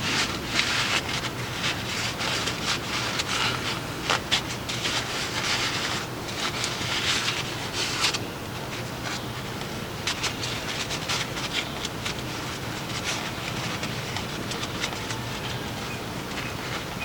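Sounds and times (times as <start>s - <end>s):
rubbing and scraping handling noises: 0.0s - 17.0s.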